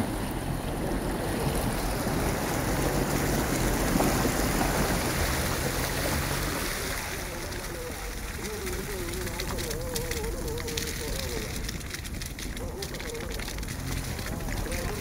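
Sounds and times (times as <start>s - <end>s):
car engine hum: 0.0s - 15.0s
tyres splashing through water: 0.0s - 15.0s.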